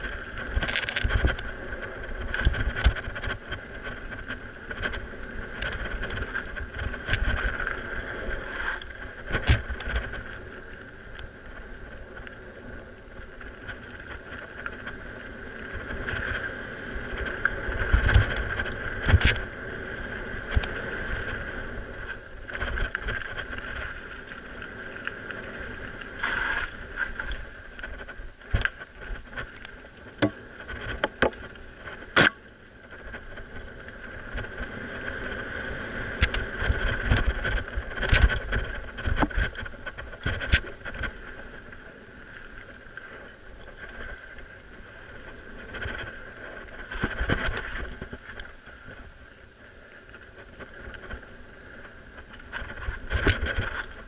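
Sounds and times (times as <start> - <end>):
bike rattling over rocks: 0.0 - 49.2, 50.0 - 54.0
bike tyres whirring: 0.0 - 54.0.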